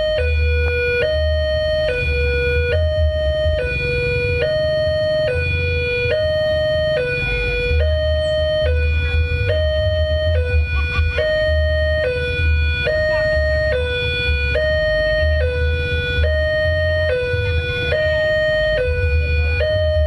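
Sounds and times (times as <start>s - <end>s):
level crossing alarm two tones: 0.0s - 20.0s.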